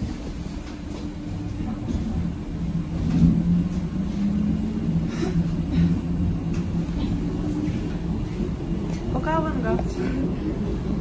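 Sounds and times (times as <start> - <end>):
low rumble of ride: 0.0 - 11.0.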